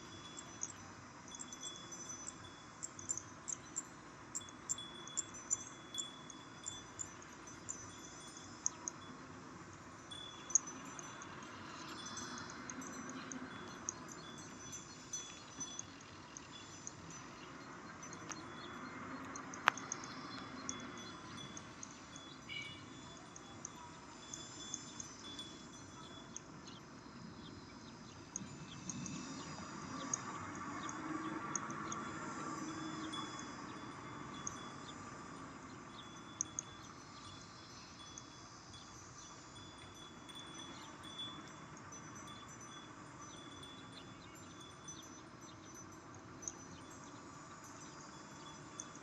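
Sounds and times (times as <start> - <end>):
faint high ringing tones: 0.0 - 49.0
faint outdoor ambience: 0.0 - 49.0
high-pitched chirps and ticks: 0.0 - 49.0.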